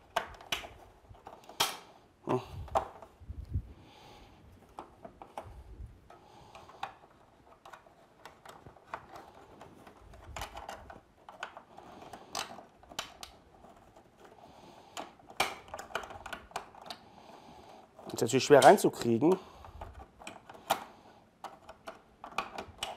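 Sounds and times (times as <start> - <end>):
small plastic clicks and scrapes: 0.0 - 2.0, 2.6 - 3.6, 4.5 - 22.9.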